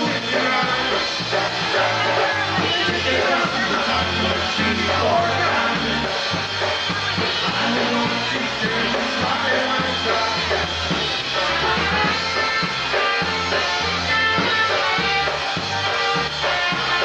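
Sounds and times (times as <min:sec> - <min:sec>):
polka band playing: 0:00.0 - 0:17.0.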